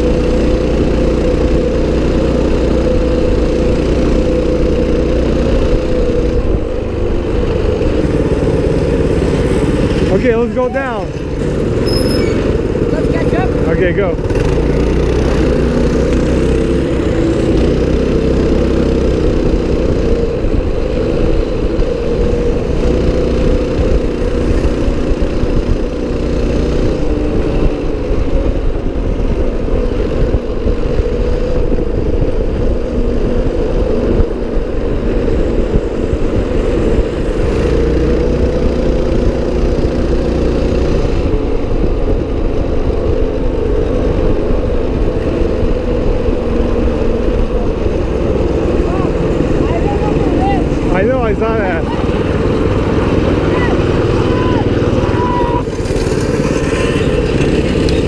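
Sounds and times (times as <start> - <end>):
small motorbike engine running: 0.0 - 58.0.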